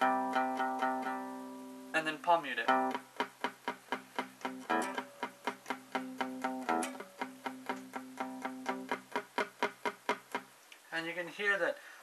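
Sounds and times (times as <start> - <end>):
palm-muted electric guitar chords: 0.0 - 2.0, 2.6 - 10.4
bright guitar strums: 0.0 - 10.9.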